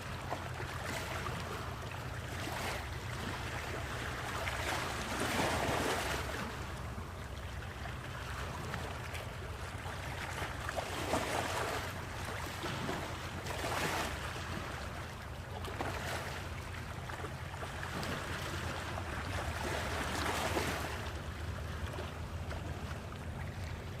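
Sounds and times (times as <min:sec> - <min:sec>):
sea waves breaking: 0:00.0 - 0:24.0.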